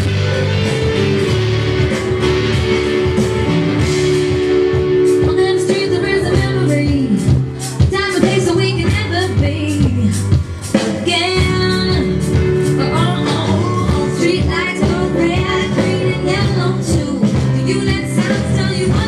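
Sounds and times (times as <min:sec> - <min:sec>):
pop song over sound system: 0:00.0 - 0:19.0.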